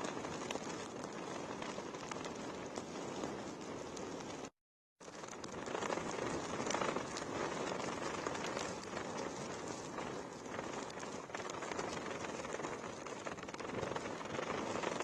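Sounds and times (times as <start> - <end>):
heavy rain pattering: 0.0 - 15.0.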